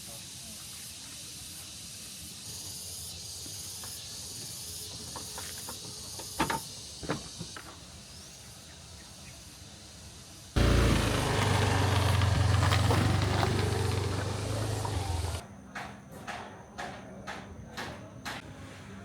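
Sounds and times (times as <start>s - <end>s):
insects chorus: 0.0s - 15.8s.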